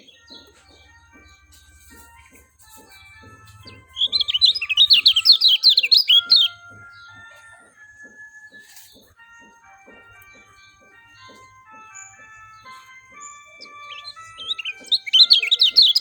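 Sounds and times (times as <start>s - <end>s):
bird singing rapid chirps: 0.0s - 16.0s
faint background music with beat: 0.0s - 16.0s.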